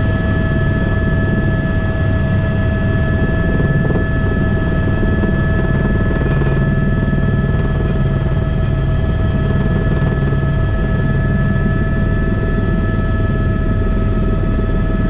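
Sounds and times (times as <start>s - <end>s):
helicopter rotor beat: 0.0s - 15.0s
turbine engine whine: 0.0s - 15.0s.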